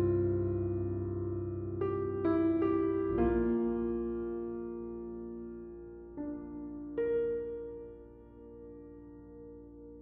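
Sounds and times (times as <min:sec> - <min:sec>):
soft music of sustained notes: 0:00.0 - 0:10.0.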